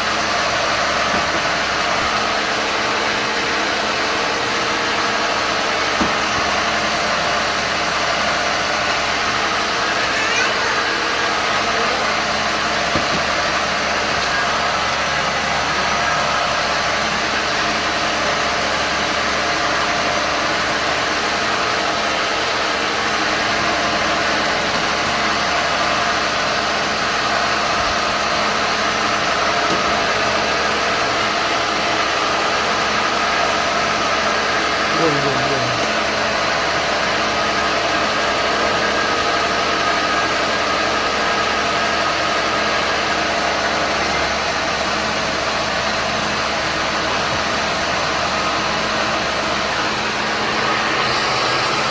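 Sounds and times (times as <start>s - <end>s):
cotton candy machine running: 0.0s - 51.9s.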